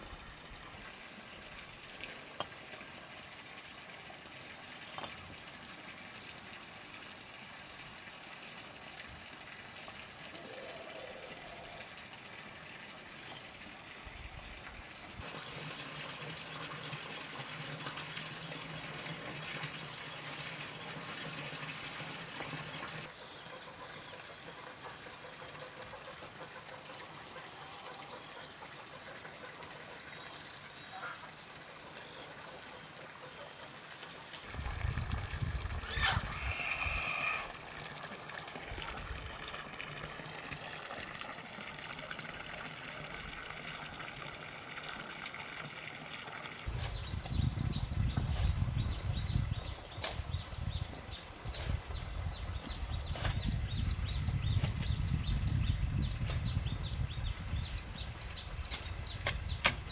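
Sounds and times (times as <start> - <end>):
water gushing: 0.0 - 59.9.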